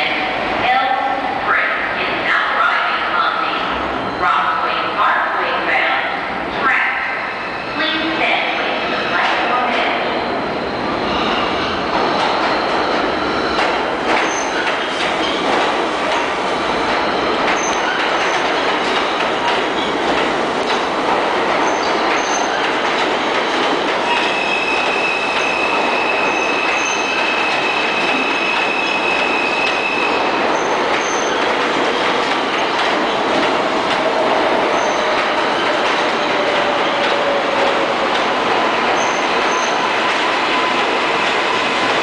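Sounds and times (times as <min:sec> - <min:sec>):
train wheels rumbling on rails: 0:07.2 - 0:42.0.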